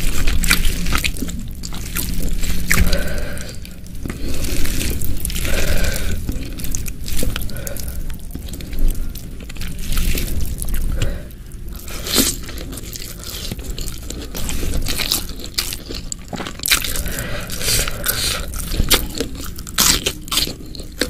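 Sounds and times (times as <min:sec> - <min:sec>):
wet chewing and lip smacking: 0:00.0 - 0:21.0.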